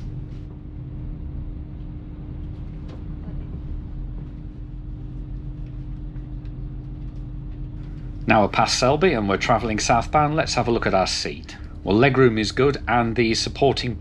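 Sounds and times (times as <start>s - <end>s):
train rumbling and humming: 0.0s - 14.0s.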